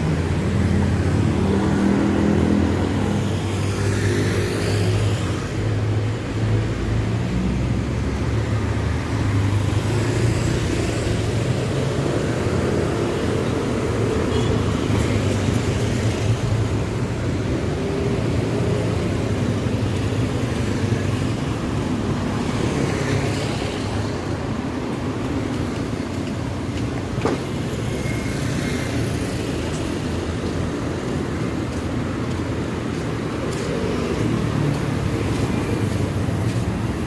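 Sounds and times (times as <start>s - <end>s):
vehicle engines humming: 0.0s - 37.0s.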